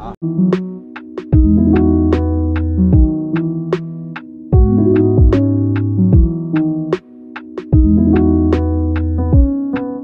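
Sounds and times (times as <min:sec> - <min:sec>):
synthesizer chords: 0:00.3 - 0:10.0
steady electronic beat: 0:00.6 - 0:09.9.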